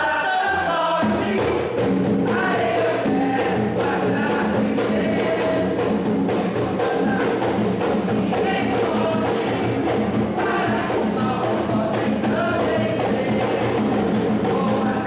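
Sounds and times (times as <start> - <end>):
group singing devotional song: 0.0 - 15.0
hand drums: 0.0 - 15.0.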